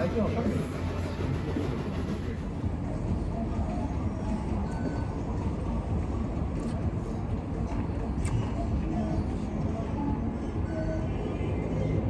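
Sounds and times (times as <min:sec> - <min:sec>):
restaurant room noise: 0:00.0 - 0:12.0.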